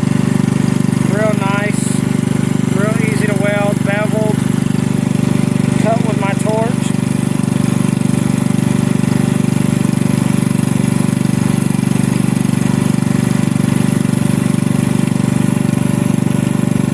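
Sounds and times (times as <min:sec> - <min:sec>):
engine running steadily: 0:00.0 - 0:16.9.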